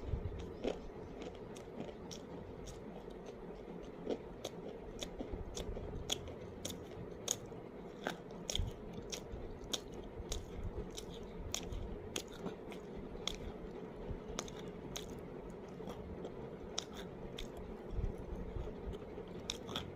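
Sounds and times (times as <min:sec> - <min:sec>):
person chewing crunchy clay: 0:00.0 - 0:13.6, 0:14.2 - 0:19.9
faint steady hum: 0:00.0 - 0:19.9.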